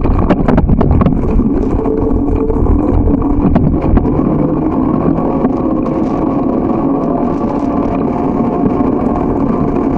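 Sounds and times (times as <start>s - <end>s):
road and wind rushing: 0.0s - 9.8s.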